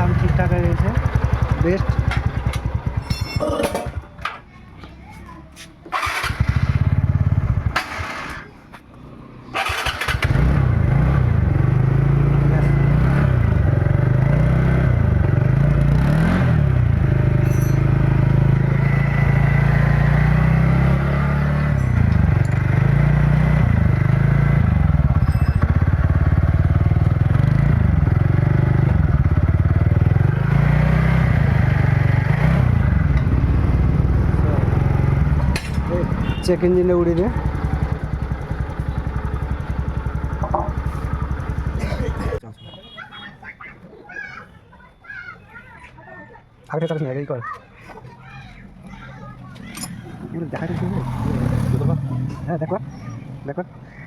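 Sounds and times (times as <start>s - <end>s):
scooter engine running: 0.0s - 4.3s, 5.9s - 8.6s, 9.5s - 43.0s, 49.0s - 53.4s.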